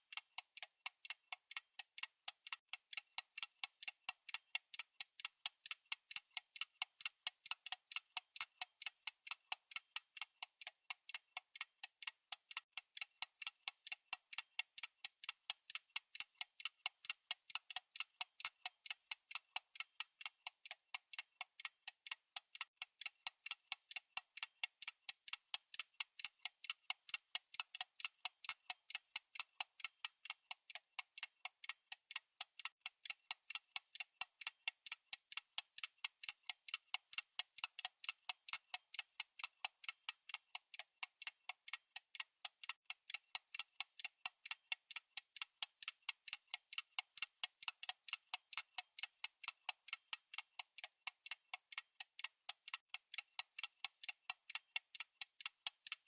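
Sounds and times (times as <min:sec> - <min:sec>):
timer ticking: 0:00.0 - 0:56.0.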